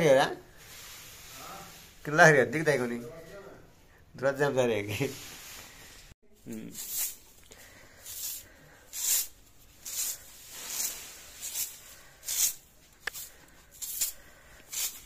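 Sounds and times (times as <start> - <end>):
broom sweeping brick floor: 0.2 - 2.2, 4.9 - 15.0.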